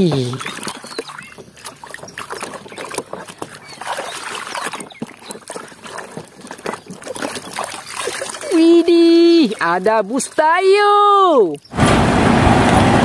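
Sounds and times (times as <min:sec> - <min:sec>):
water sloshing in a plastic tub: 0:00.0 - 0:11.7.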